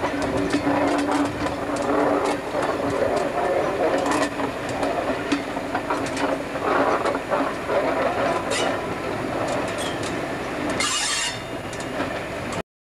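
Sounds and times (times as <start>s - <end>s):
train coaches rumbling: 0.0s - 12.6s
wheels clicking on rails: 0.0s - 12.6s.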